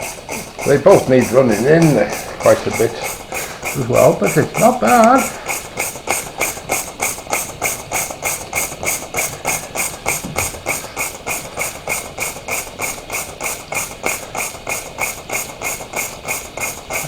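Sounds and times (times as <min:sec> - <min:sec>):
steam engine chuffing: 0:00.0 - 0:17.0.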